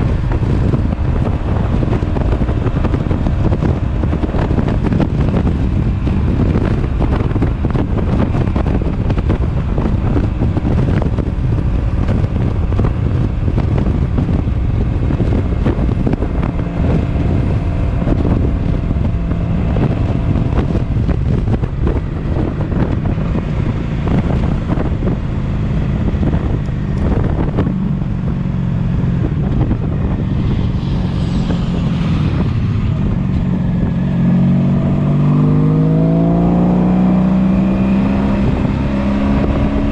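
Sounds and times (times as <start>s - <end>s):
motorcycle engine droning: 0.0s - 39.9s
wind buffeting microphone: 0.0s - 39.9s.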